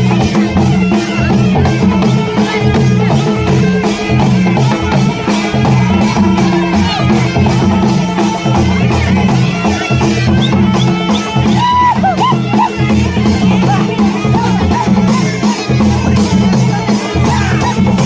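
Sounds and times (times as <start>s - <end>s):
fast drum beat: 0.0s - 18.0s.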